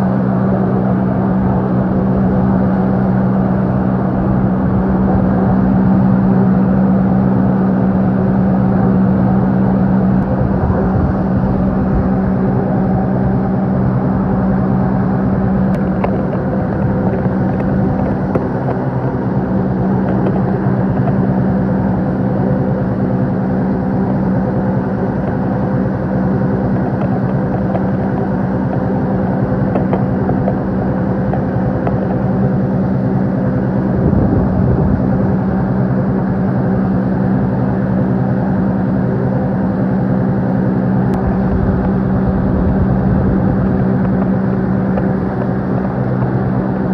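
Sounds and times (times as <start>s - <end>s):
motorboat engine running: 0.0s - 46.9s.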